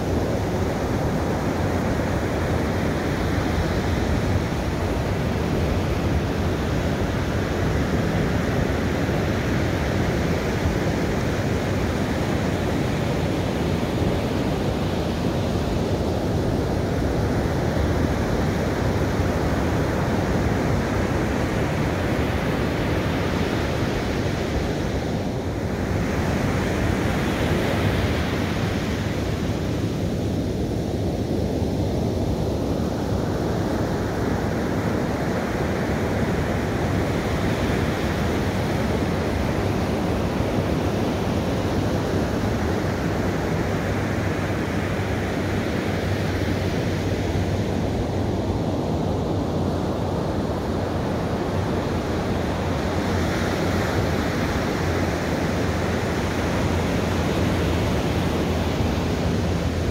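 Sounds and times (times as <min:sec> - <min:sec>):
ocean surf breaking on a beach: 0:00.0 - 0:59.9
wind buffeting the microphone: 0:00.0 - 0:59.9.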